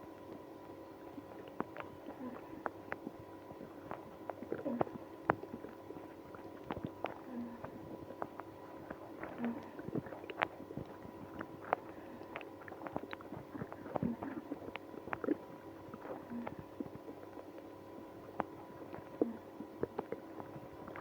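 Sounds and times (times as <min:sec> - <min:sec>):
stomach gurgling: 0:00.0 - 0:21.0.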